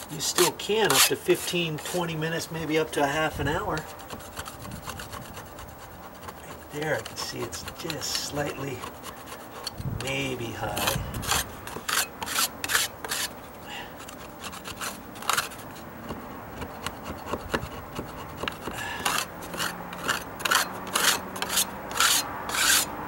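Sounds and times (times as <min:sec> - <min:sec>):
putty knife scraping wood: 0:00.0 - 0:02.0, 0:02.7 - 0:22.9.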